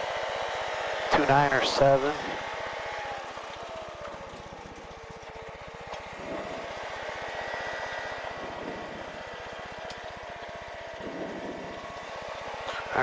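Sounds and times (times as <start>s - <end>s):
aircraft piston engine running: 0.0s - 13.0s.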